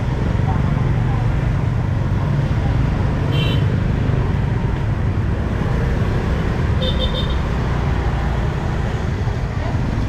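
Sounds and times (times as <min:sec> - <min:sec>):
motorbike traffic rumble: 0:00.0 - 0:10.0.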